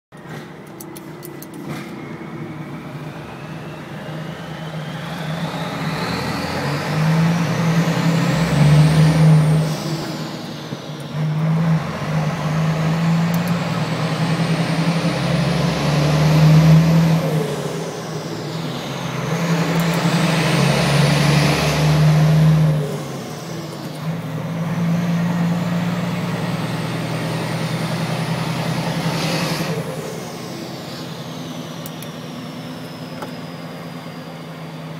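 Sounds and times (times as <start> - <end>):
truck diesel engine pulling: 0.2 - 34.9.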